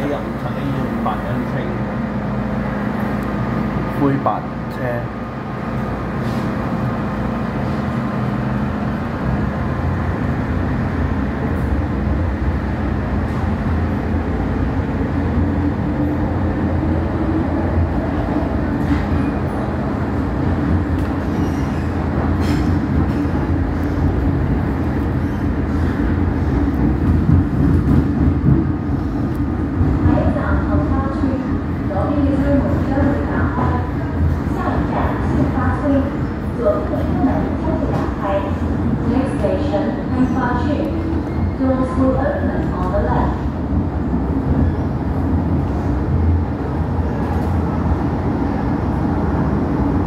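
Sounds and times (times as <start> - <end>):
train wheels rumbling: 0.0 - 50.0.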